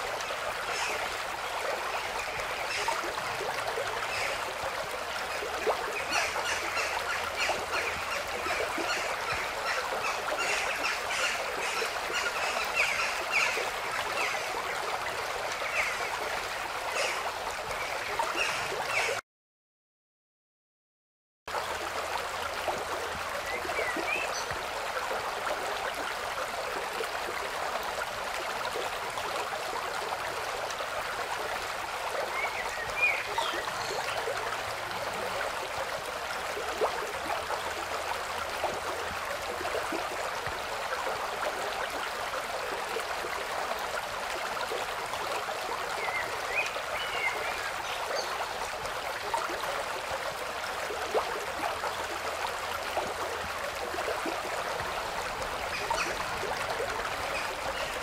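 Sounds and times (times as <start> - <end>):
stream rushing and trickling: 0.0 - 19.2, 21.5 - 58.0.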